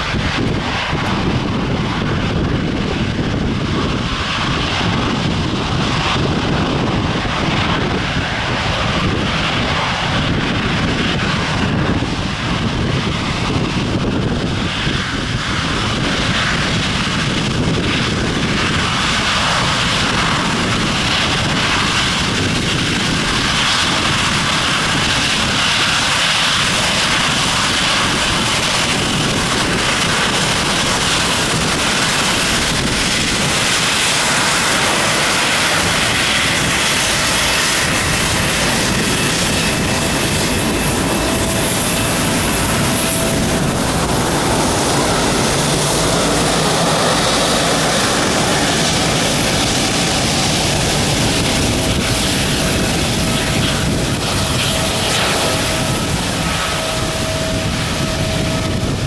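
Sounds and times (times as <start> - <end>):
jet engines taxiing: 0.0 - 59.0
wind buffeting microphone: 0.0 - 59.0.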